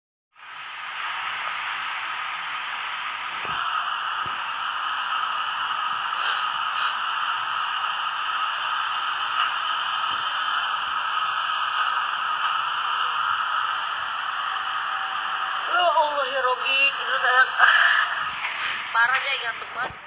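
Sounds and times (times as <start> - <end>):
static-like hiss: 0.4 - 20.0.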